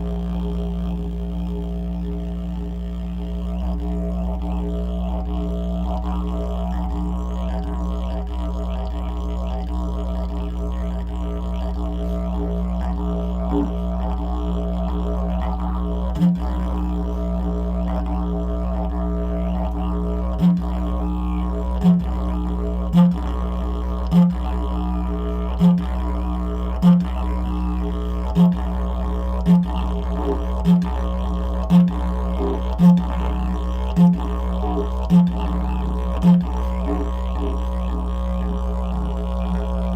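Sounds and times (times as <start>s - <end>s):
didgeridoo drone: 0.0s - 39.9s.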